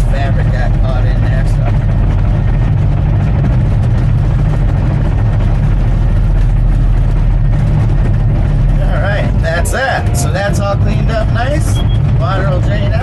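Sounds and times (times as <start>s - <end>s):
bulldozer diesel engine droning: 0.0s - 13.0s.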